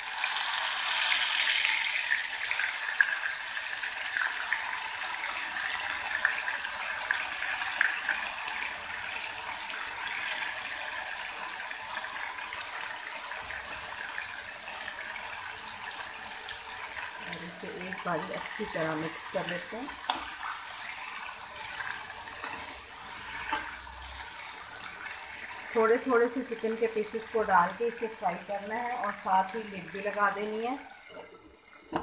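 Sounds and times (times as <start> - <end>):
chicken sizzling in hot fat: 0.0 - 32.0.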